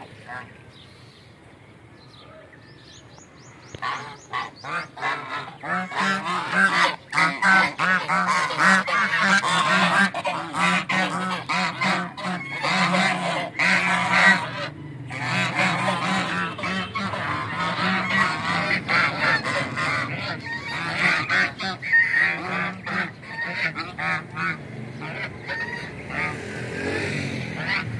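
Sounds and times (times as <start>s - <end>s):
geese honking and cackling: 0.0s - 0.6s, 3.7s - 27.9s.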